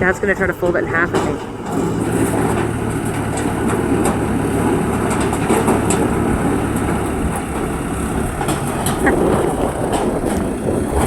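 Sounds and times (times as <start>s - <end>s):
excavator engine humming: 0.0s - 11.0s.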